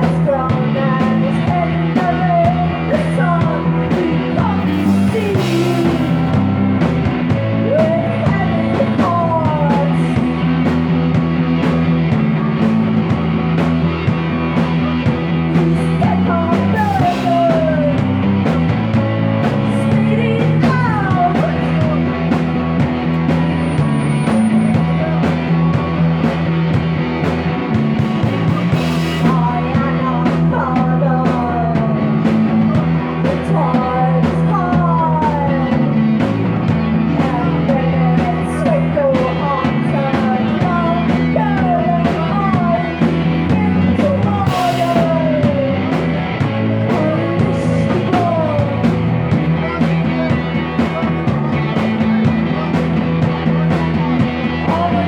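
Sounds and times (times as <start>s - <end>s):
rock band playing loudly: 0.0s - 55.0s.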